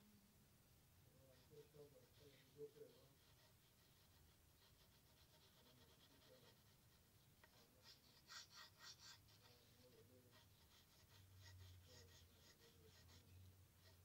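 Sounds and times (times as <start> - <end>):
pencil scratching on paper: 1.2 - 14.0.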